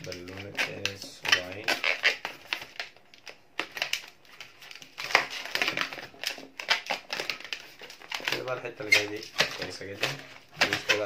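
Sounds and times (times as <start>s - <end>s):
rubber balloon squeaking: 0.0s - 3.9s, 4.8s - 11.0s.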